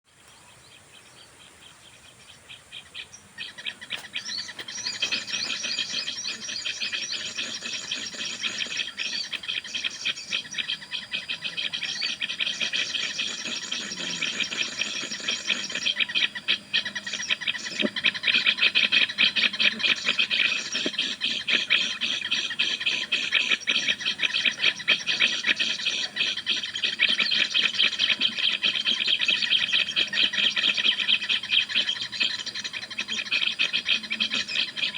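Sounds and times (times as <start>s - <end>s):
high-pitched bird chirping: 3.1s - 34.9s.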